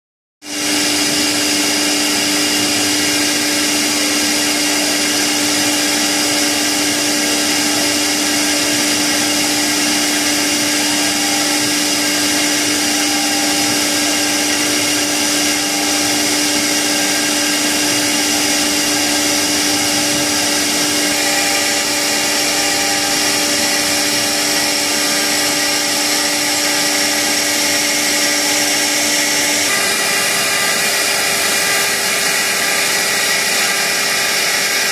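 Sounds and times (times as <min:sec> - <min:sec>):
router spindle whine: 0:00.4 - 0:34.9.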